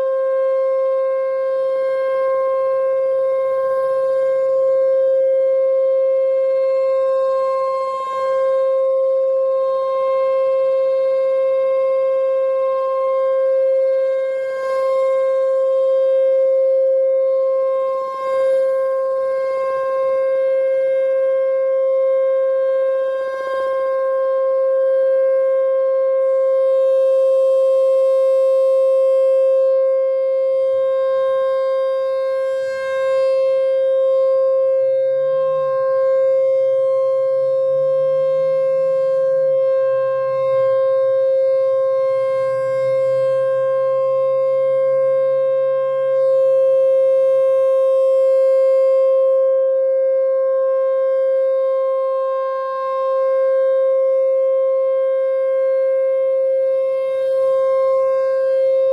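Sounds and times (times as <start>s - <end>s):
tornado siren steady tone: 0.0s - 58.9s.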